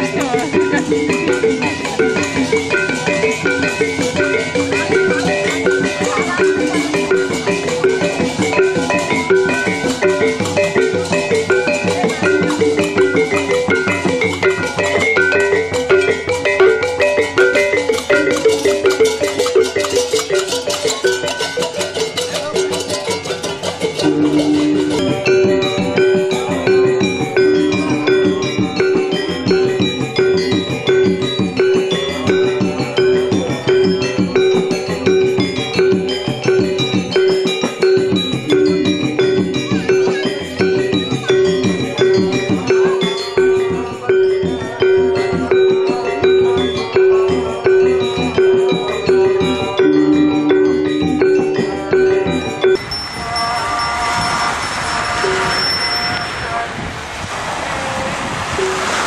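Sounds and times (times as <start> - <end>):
drumming: 0.0 - 53.2, 57.6 - 59.0
gamelan ensemble playing: 0.0 - 56.8, 58.0 - 59.0.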